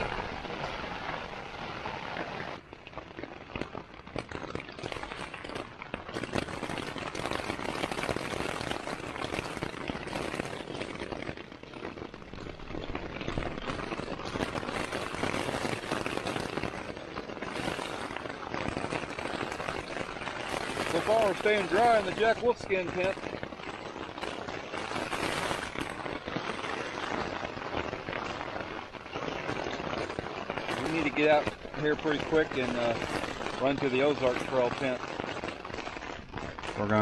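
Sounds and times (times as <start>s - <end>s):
heavy rain on tent fabric: 0.0s - 37.0s.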